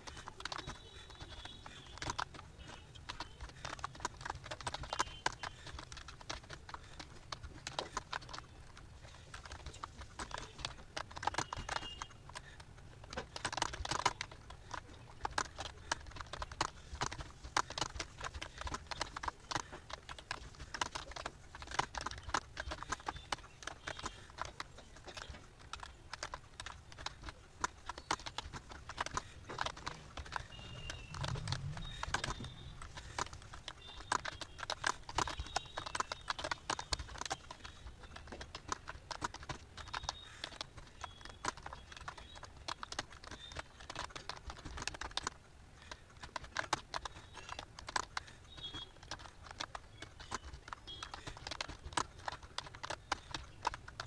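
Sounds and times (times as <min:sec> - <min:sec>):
typing on computer keyboard: 0:00.0 - 0:54.0.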